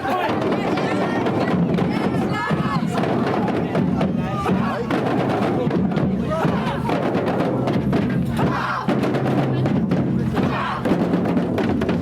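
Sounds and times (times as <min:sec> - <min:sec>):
crowd voices: 0:00.0 - 0:12.0
marching band with drums: 0:00.0 - 0:12.0.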